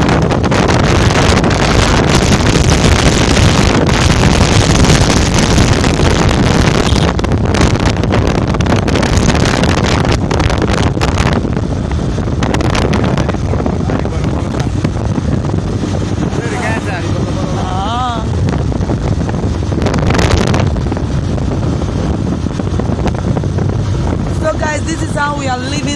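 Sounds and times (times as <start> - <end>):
vehicle engine and road noise: 0.0 - 25.9
wind noise on microphone: 0.0 - 25.9.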